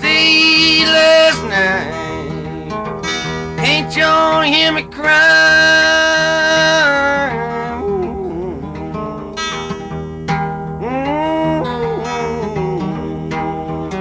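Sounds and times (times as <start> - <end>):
blues guitar accompaniment: 0.0 - 14.0.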